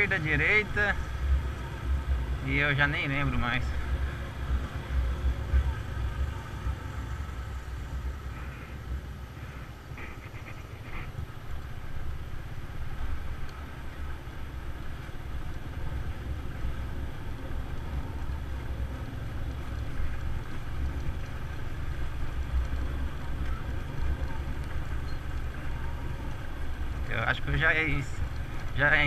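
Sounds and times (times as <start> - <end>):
road and vehicle noise: 0.0 - 29.0.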